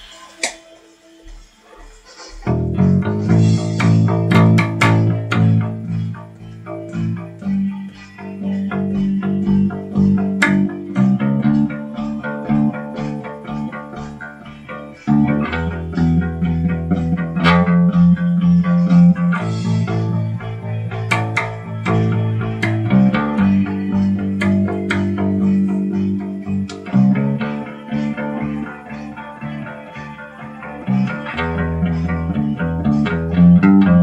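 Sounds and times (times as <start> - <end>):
backing music: 0.0 - 34.0
electric bass guitar: 2.4 - 34.0.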